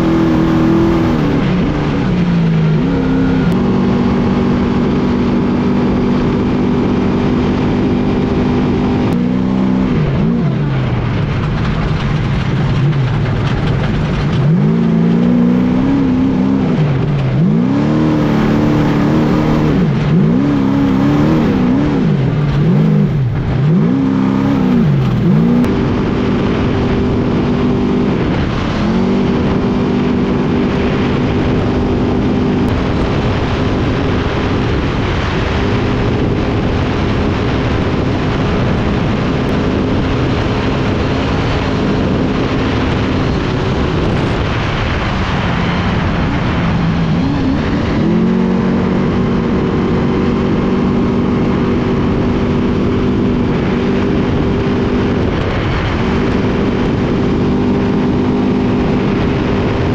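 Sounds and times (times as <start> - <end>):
steady rushing noise: 0.0 - 59.9
truck engine revving: 0.0 - 59.9.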